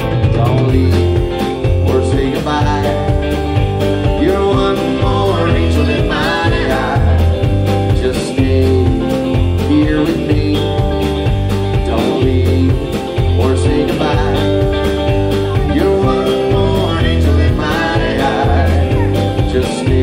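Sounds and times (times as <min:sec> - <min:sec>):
electric guitar: 0:00.0 - 0:20.0
pulsing bass line: 0:00.0 - 0:20.0
steady drum beat: 0:00.0 - 0:20.0.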